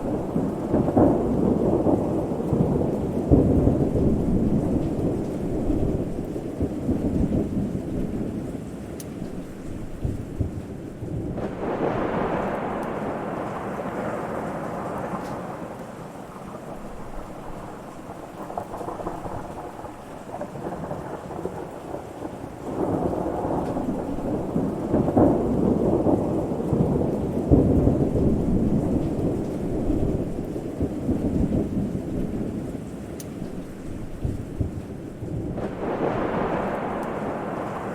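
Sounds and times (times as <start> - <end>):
rolling thunder: 0.0 - 37.9
steady rain: 0.0 - 37.9.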